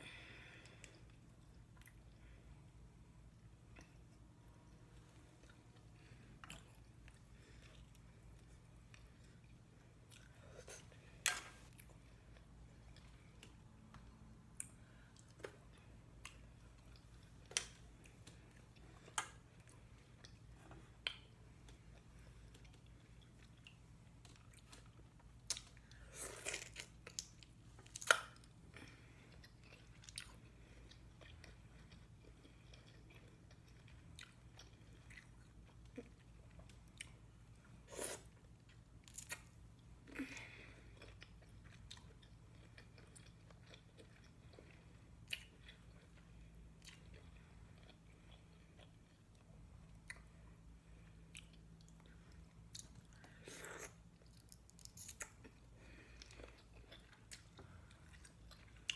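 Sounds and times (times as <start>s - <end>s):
chewing and mouth sounds: 0.6s - 2.4s, 3.6s - 58.9s.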